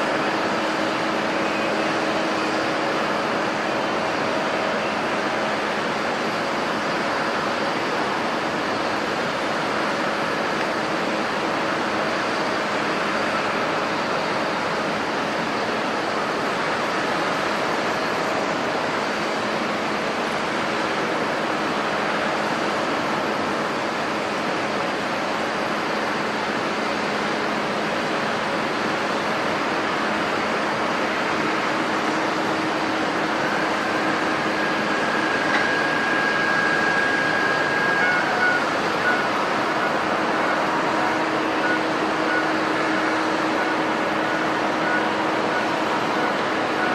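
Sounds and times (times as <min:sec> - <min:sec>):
high engine whine: 0:00.0 - 0:46.9
jet engines running: 0:00.0 - 0:46.9.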